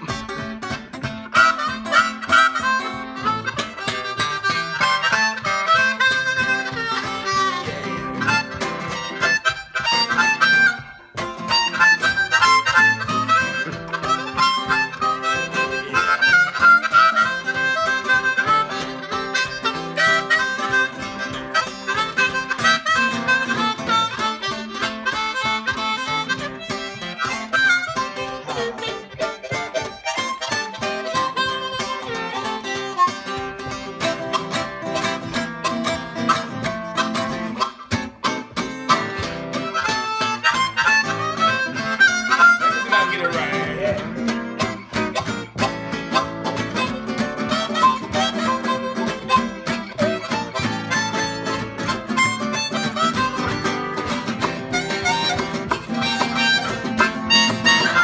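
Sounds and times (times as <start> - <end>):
acoustic guitar picking: 0.0 - 58.0
harmonica melody: 0.0 - 58.0.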